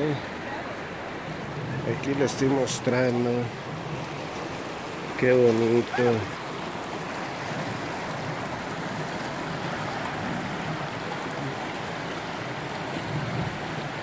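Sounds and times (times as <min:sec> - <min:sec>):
river rushing over stones: 0:00.0 - 0:14.0.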